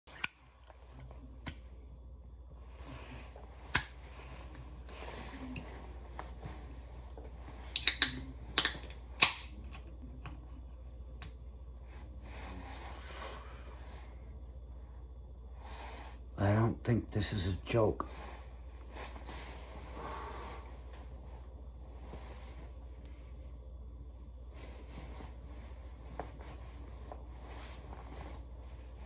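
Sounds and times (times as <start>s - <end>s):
steady low hum: 0.1s - 29.0s.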